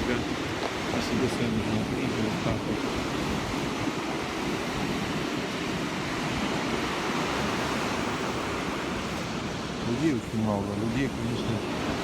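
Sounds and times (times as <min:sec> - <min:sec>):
waves rushing: 0:00.0 - 0:12.0
wind: 0:00.0 - 0:12.0.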